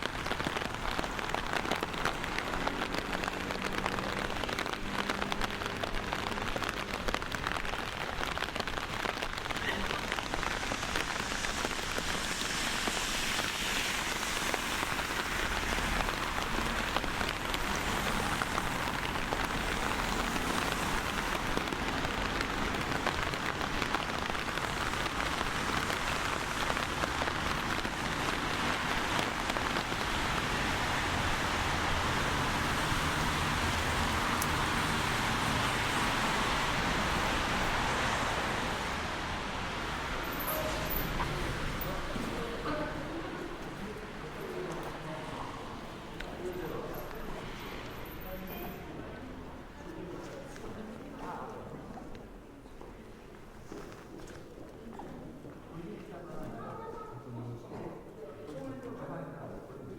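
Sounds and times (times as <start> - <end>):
steady rain falling: 0.0 - 57.1.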